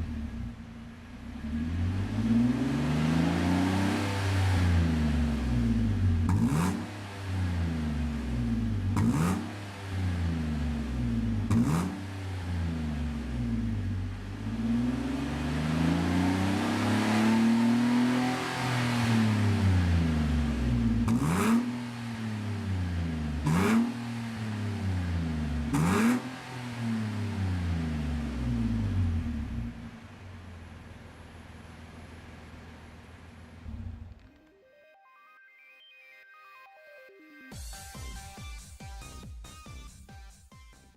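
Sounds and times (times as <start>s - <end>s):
car engine revving: 0.0s - 34.4s.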